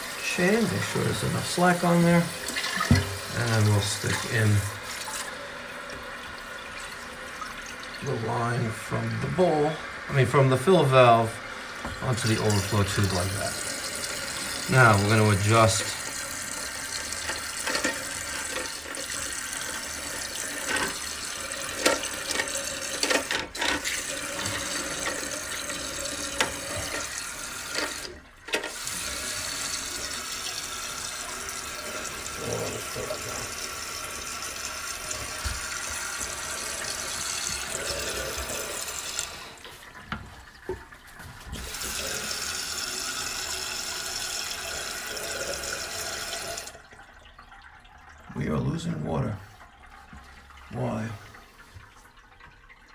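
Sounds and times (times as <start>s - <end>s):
water rushing into toilet tank: 0.0s - 52.9s.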